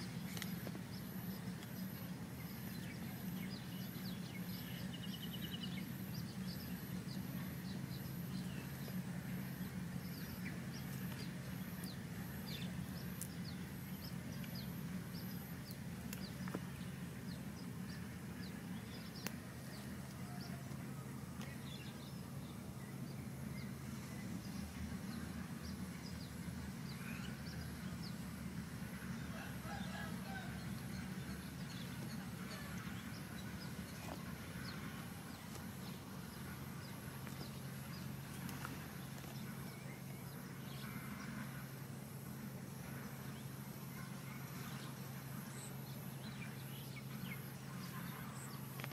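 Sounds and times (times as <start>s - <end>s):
birds and insects chirping: 0.0s - 48.9s
steady low hum: 0.0s - 48.9s.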